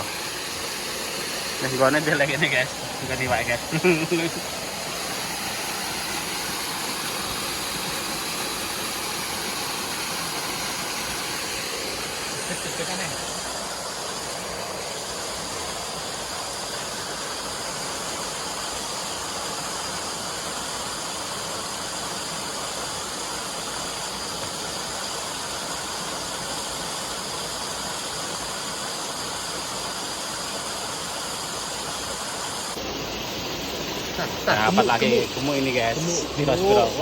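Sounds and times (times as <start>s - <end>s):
rushing stream water: 0.0s - 37.0s.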